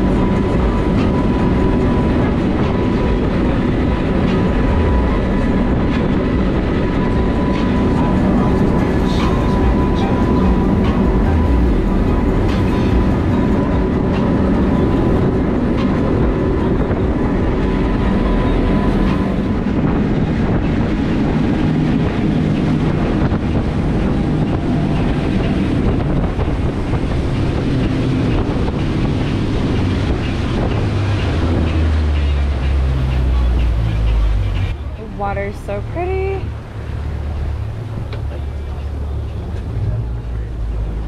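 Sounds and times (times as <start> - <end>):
boat engine rumbling: 0.0 - 41.0
wind buffeting microphone: 0.0 - 41.0.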